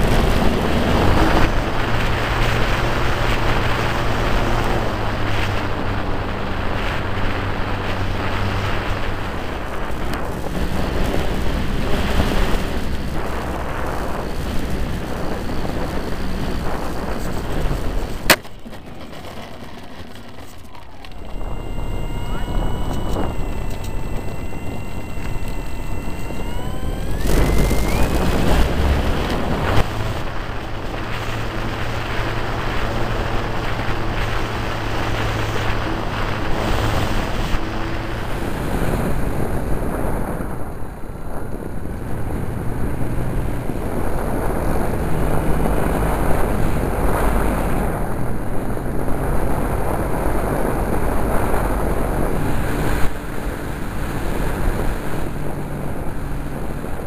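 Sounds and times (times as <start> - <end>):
model plane motor whining: 0.0 - 57.0
wind rush on microphone: 0.0 - 57.0.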